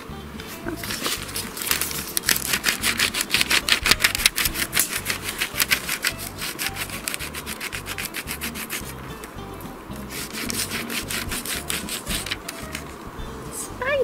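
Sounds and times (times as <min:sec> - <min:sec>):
scribbling on paper over bark: 0:00.7 - 0:09.2, 0:10.0 - 0:13.0.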